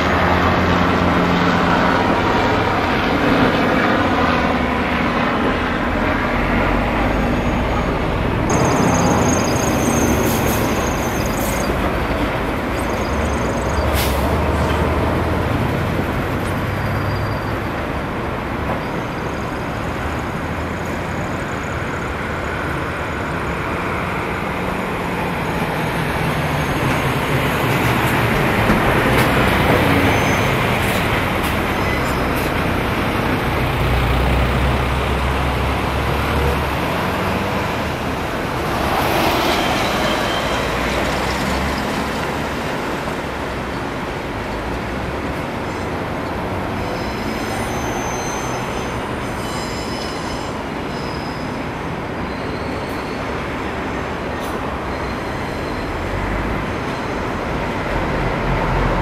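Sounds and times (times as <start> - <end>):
diesel locomotive engine droning: 0.0 - 59.0
wagons rumbling over rails: 0.0 - 59.0.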